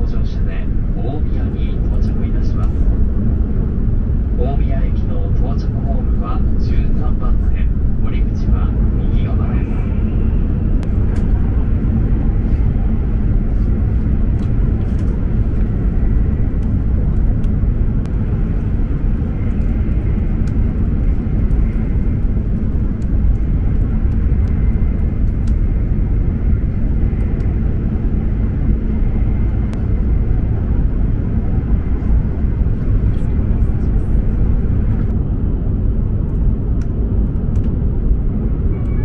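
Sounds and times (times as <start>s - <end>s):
faint high whine: 0.0s - 35.2s, 38.4s - 39.0s
train rumble inside cabin: 0.0s - 39.0s.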